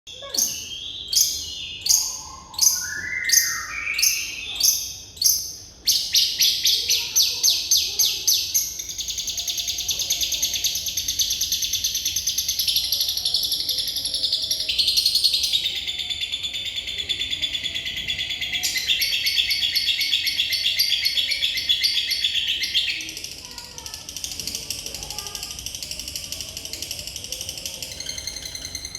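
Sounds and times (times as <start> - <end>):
bird chirps and trill: 0.1 - 28.9.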